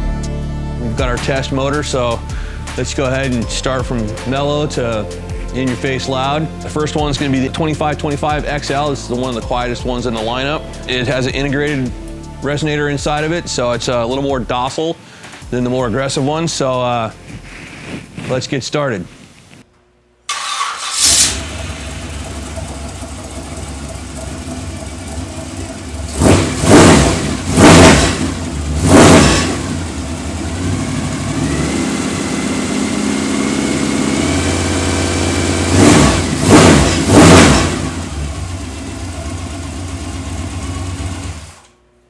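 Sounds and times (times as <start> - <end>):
engine idling and revving: 0.0 - 14.4, 20.3 - 41.7.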